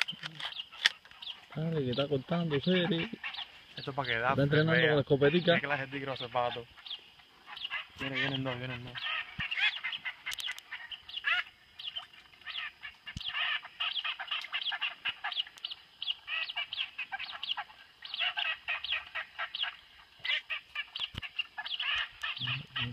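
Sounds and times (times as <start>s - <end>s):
birds chirping and whistling: 0.0s - 22.9s.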